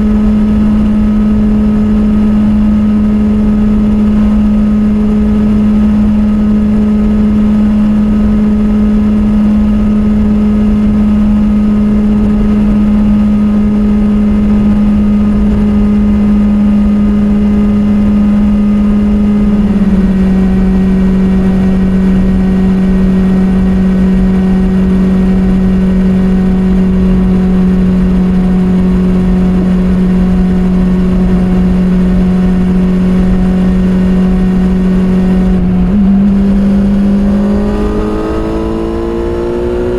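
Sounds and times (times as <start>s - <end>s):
motorcycle engine at steady revs: 0.0s - 39.9s.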